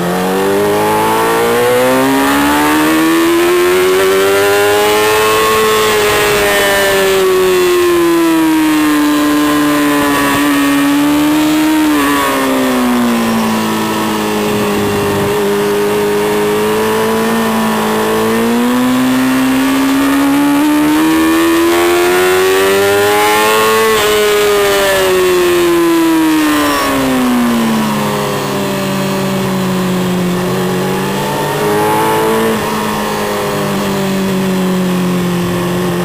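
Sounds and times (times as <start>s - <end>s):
racing motorcycle engine revving: 0.0s - 36.0s.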